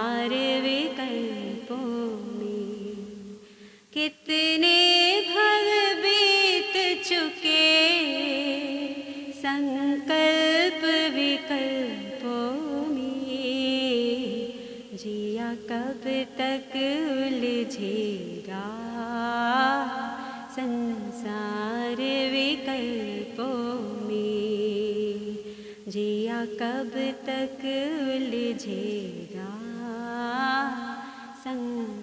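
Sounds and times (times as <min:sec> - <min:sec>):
woman singing: 0:00.0 - 0:32.0.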